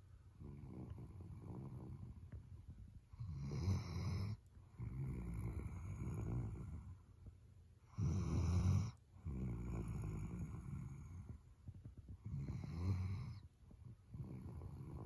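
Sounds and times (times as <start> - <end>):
dog snoring: 0.4 - 2.4, 3.1 - 7.0, 7.8 - 11.4, 12.0 - 15.0.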